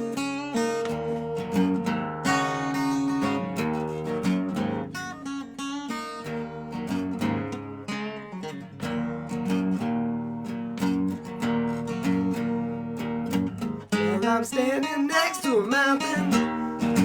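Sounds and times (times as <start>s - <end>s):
resonator guitar blues riff: 0.0s - 17.0s.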